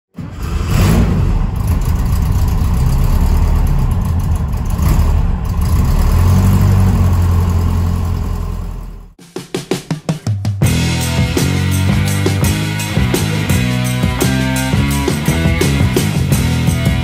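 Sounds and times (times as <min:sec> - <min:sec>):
engine rumbling and revving: 0:00.2 - 0:09.2, 0:10.7 - 0:17.0.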